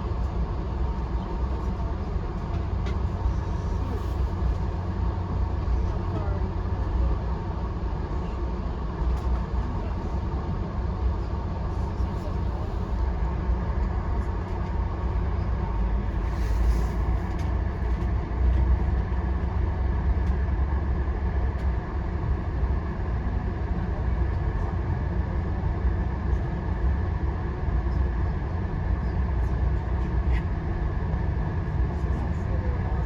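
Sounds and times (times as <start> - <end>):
train rumbling on track: 0.0 - 33.0.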